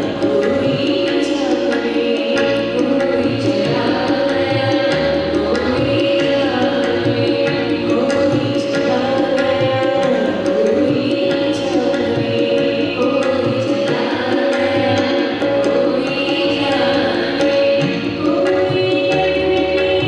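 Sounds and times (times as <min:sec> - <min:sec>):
harmonium drone: 0:00.0 - 0:20.0
woman singing into a microphone: 0:00.0 - 0:20.0.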